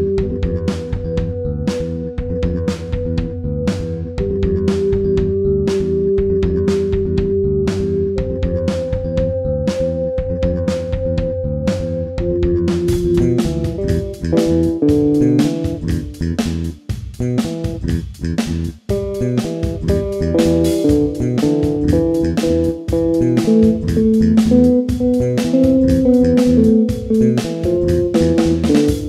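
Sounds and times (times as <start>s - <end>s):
music with plucked guitar and bass: 0.0s - 29.0s.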